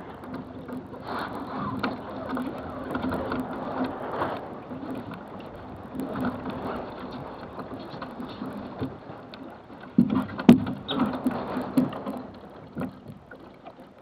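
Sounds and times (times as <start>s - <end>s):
water rushing along boat hull: 0.0s - 14.0s.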